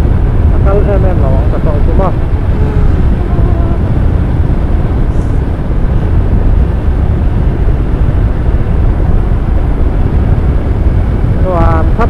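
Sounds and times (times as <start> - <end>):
motorcycle engine: 0.0 - 10.7
wind rush on microphone: 0.0 - 12.0.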